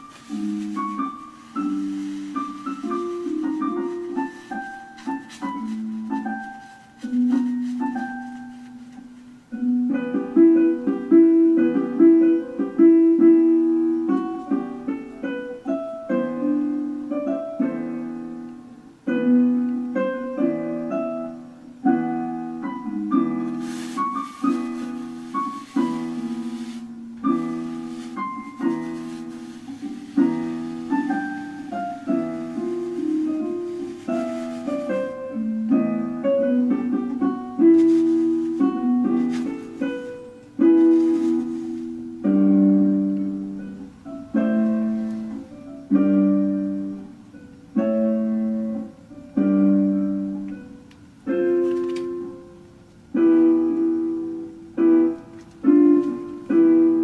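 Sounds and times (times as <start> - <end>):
piano chords and melody: 0.0 - 57.0.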